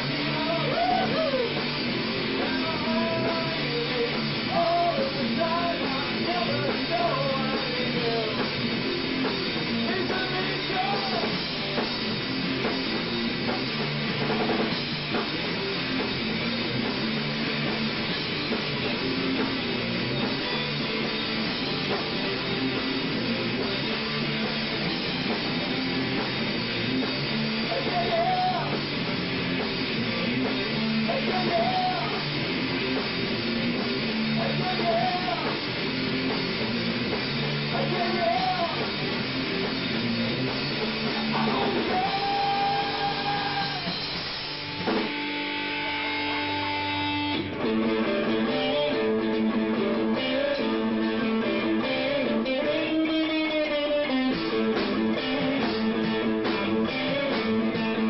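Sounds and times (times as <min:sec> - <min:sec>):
drum kit: 0:00.0 - 0:58.0
electric guitar: 0:00.0 - 0:58.0.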